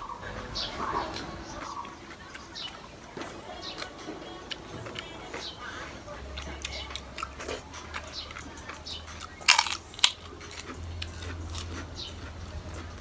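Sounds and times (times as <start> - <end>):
biting and crunching food: 0.2 - 13.0
mouth clicks: 0.2 - 13.0.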